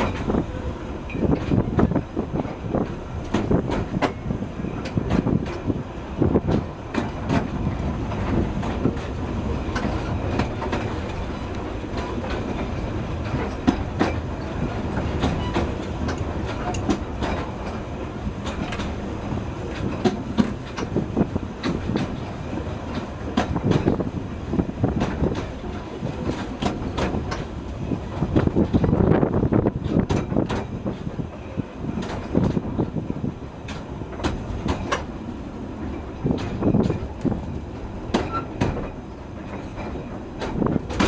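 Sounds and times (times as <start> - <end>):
rumble of wheels on rail: 0.0 - 41.0
wheels clicking over rail joints: 0.0 - 41.0.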